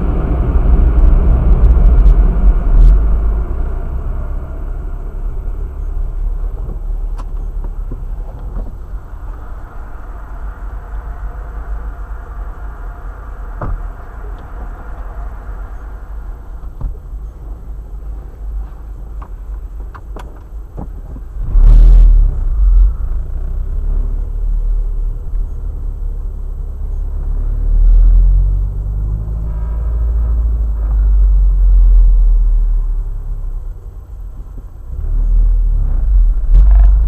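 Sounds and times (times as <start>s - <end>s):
sudden loud low rumble: 0.0s - 19.8s, 20.6s - 37.0s
car cabin road and engine noise: 0.0s - 37.0s.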